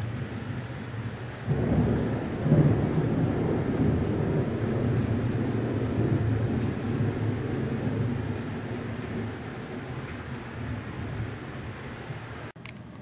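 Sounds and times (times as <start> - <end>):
rolling thunder: 0.0 - 12.5.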